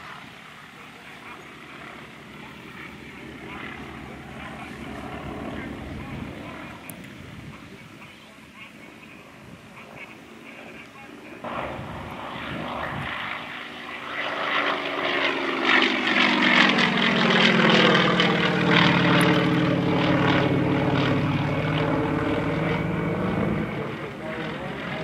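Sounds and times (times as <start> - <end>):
propeller plane engine: 0.0 - 25.0.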